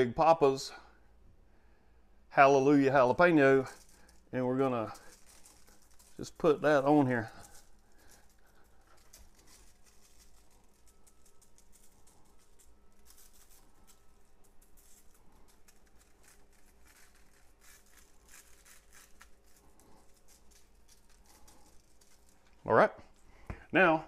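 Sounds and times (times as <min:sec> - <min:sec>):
spice shaker rattling: 0:03.0 - 0:23.2.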